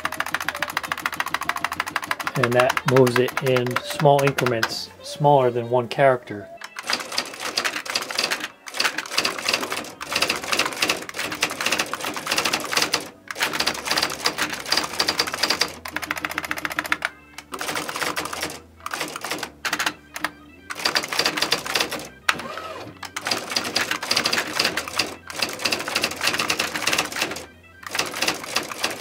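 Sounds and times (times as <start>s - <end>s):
electronic typewriter printing: 0.0s - 4.8s, 6.6s - 29.0s.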